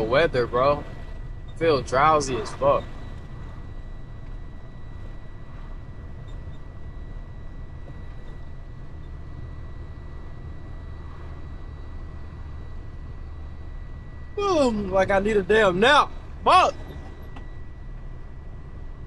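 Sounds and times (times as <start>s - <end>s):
faint high-pitched whine: 0.0s - 19.0s
truck engine and road rumble: 0.0s - 19.0s.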